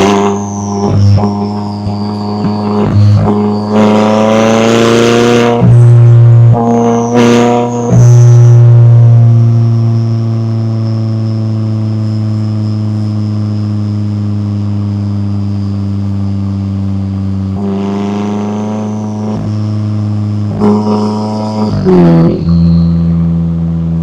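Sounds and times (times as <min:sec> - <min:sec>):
car exhaust droning: 0:00.0 - 0:24.0.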